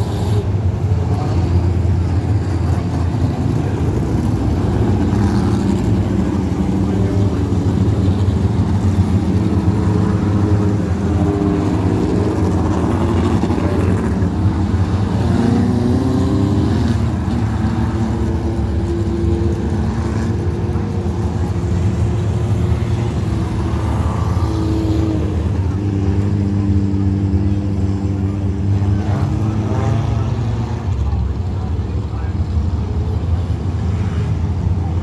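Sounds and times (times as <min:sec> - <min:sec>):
race car engines revving: 0:00.0 - 0:35.0.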